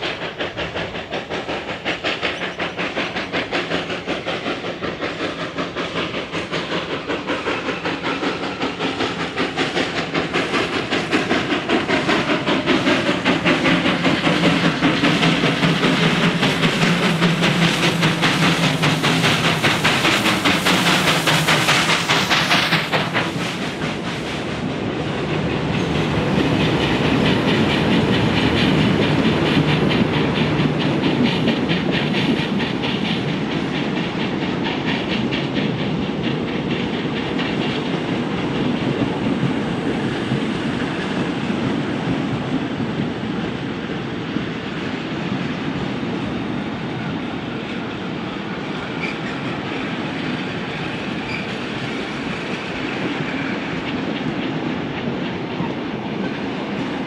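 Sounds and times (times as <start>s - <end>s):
steam hiss: 0.0s - 57.0s
steam locomotive exhaust beats: 0.0s - 57.0s
train wheels clickety-clack on rails: 0.0s - 57.0s.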